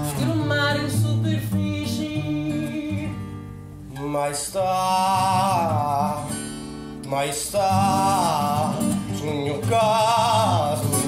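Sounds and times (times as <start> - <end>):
person singing with vibrato: 0.0 - 11.0
plucked acoustic guitar: 0.0 - 11.0.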